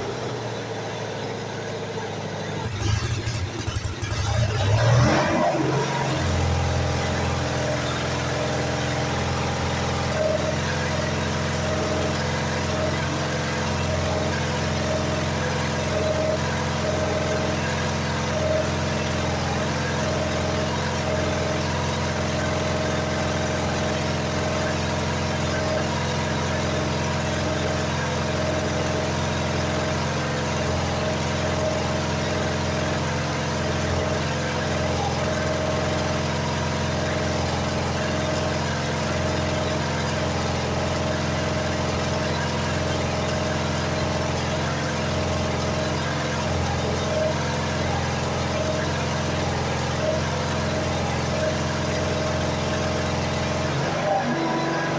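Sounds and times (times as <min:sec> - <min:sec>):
welder engine running steadily: 0:00.0 - 0:54.9.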